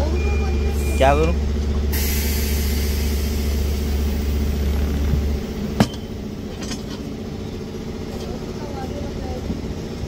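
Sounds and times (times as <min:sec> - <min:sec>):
engine rumbling with hum: 0:00.0 - 0:10.0.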